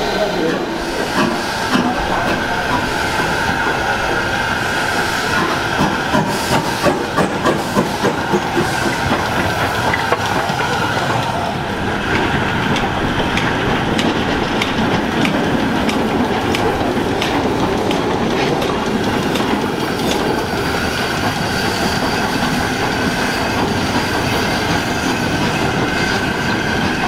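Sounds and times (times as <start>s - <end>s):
steam hissing: 0.0s - 27.0s
steam locomotive moving slowly: 0.0s - 27.0s.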